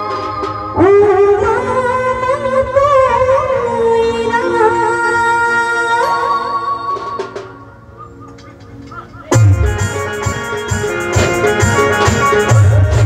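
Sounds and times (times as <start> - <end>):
electronic keyboard lead: 0.0 - 13.0.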